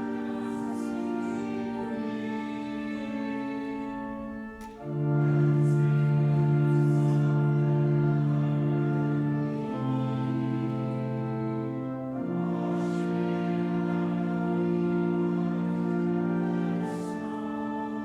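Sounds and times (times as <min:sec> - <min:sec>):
church organ chords: 0:00.0 - 0:18.0.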